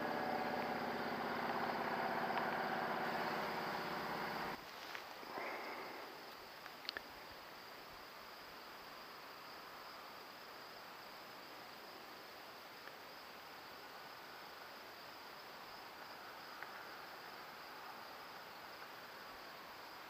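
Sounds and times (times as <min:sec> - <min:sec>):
crickets and insects chirring: 0:00.0 - 0:20.0.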